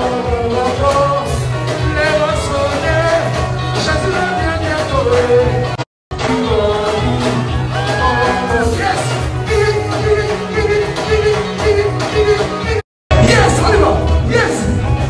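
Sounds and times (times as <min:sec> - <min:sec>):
loud dance music with singing: 0:00.0 - 0:15.0.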